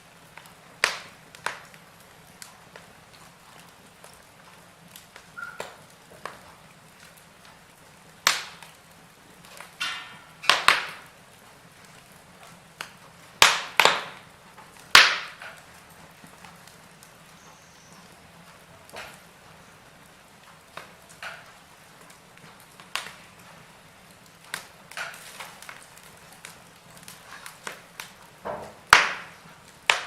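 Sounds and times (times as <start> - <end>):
faint steady hiss: 0.0 - 30.0
logs crackling in fireplace: 0.0 - 30.0
sharp fire pops: 0.0 - 30.0.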